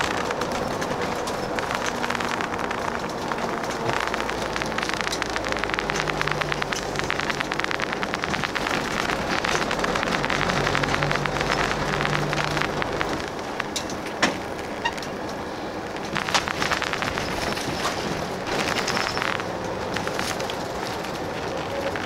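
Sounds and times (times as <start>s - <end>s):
engine hum: 0.0s - 22.0s
road noise: 0.0s - 22.0s
sharp clicks or rattles: 0.0s - 22.0s.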